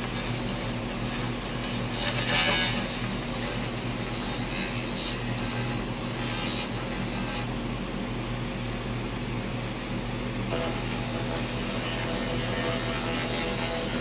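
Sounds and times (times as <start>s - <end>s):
laser buzzing hiss: 0.0s - 14.0s
low electrical hum: 0.0s - 14.0s.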